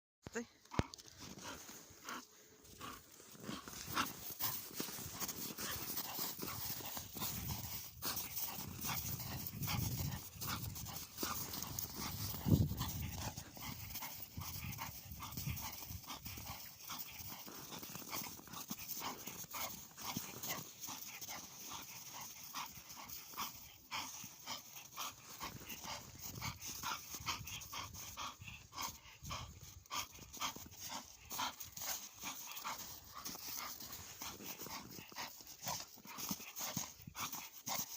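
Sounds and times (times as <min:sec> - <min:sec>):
dog breathing hard: 0:01.3 - 0:37.9.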